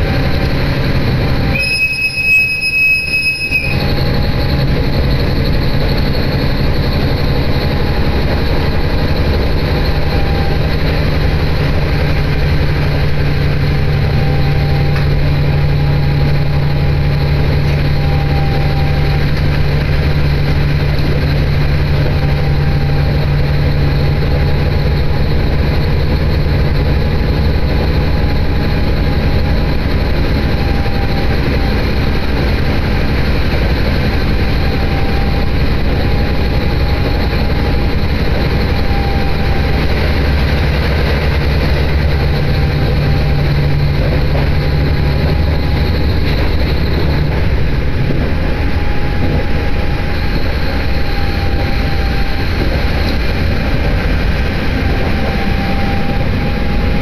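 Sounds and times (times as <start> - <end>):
rail running noise: 0.0 - 57.0
railcar engine drone: 0.0 - 57.0.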